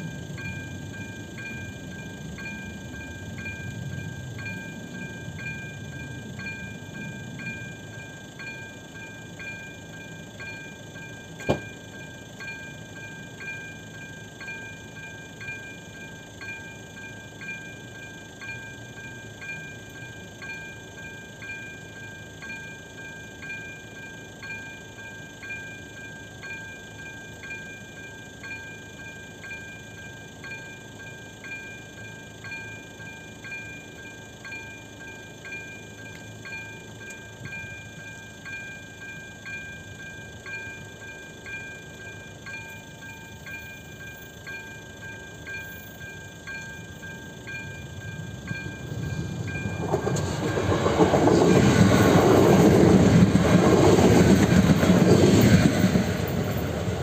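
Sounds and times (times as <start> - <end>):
level crossing warning bell: 0.0 - 57.0
steady ringing tone: 0.0 - 57.0.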